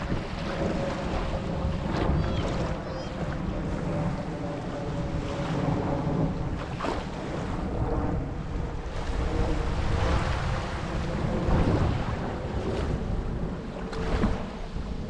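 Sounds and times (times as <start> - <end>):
surf washing ashore: 0.0 - 15.0
wind buffeting microphone: 0.0 - 15.0.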